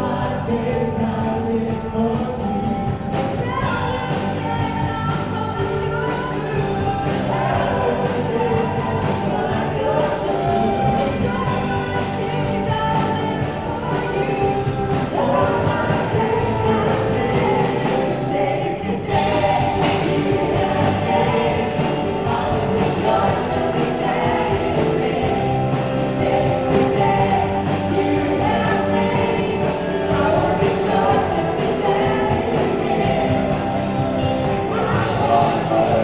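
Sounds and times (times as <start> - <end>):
group singing together: 0.0 - 2.4, 3.1 - 36.0
drums: 0.0 - 36.0
electric guitar: 0.0 - 36.0
keyboard: 0.0 - 36.0.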